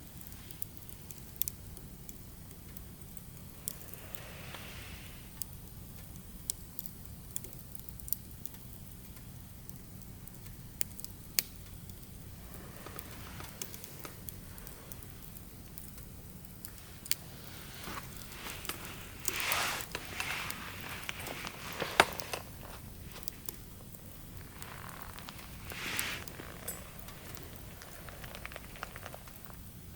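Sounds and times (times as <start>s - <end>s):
fire hissing: 0.0s - 8.8s, 9.5s - 29.9s
fire popping: 0.0s - 29.9s
firewood crackling: 0.0s - 29.9s.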